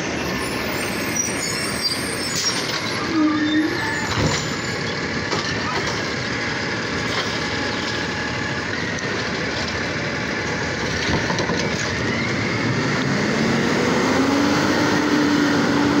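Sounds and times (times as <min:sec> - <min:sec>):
garbage truck engine and hydraulics: 0:00.0 - 0:16.0.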